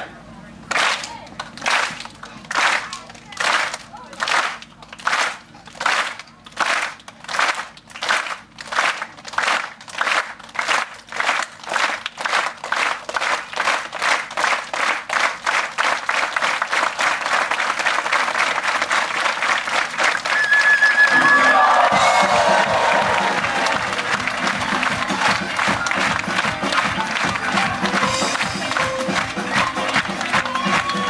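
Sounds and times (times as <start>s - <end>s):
audience clapping in unison: 0.7s - 31.0s.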